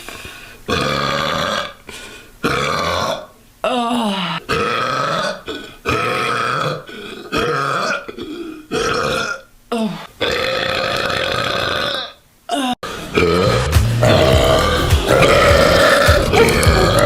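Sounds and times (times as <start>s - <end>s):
woman burping: 2.4s - 17.0s.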